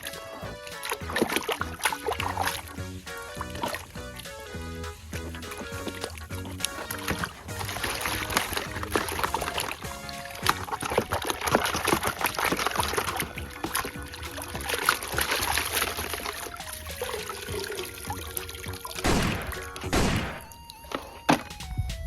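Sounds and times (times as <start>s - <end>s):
water pouring and trickling: 0.0s - 21.5s
background music: 0.0s - 22.0s.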